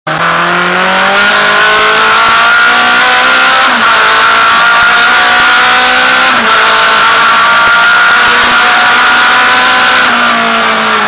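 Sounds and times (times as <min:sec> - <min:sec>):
race car engine accelerating: 0:00.1 - 0:11.0.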